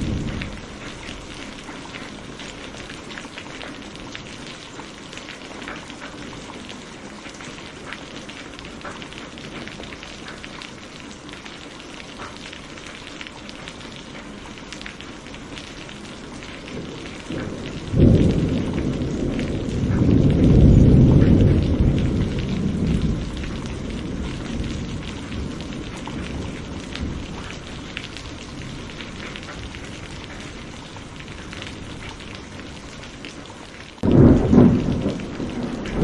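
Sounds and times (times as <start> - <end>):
low rumble of thunder: 0.0 - 11.4, 13.7 - 33.4, 34.0 - 36.0
rain on a window: 0.0 - 36.0.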